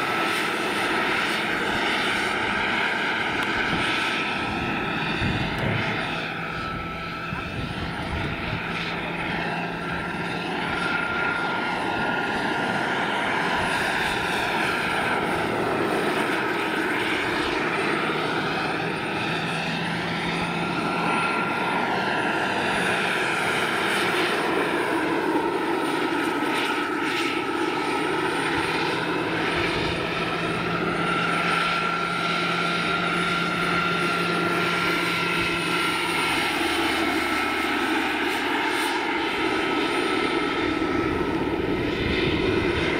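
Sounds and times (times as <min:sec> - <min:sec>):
helicopter rotor noise: 0:00.0 - 0:42.9
turbine whine: 0:00.0 - 0:42.9.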